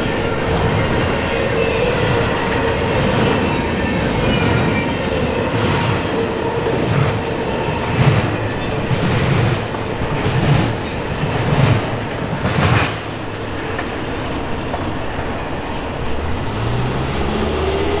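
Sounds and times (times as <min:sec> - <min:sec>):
train wheels clacking and rumbling: 0:00.0 - 0:18.0.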